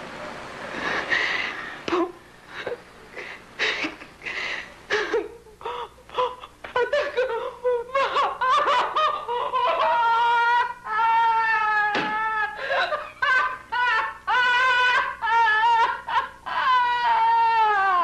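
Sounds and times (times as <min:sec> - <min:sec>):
woman sobbing and wailing: 0:02.0 - 0:18.0.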